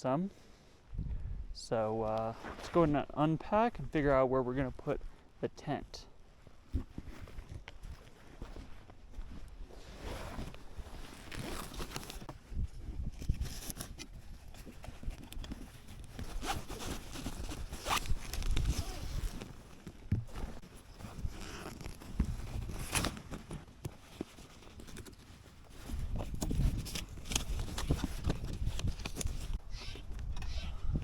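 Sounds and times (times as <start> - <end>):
rustling and scraping of gear: 1.9 - 3.8, 6.2 - 31.0.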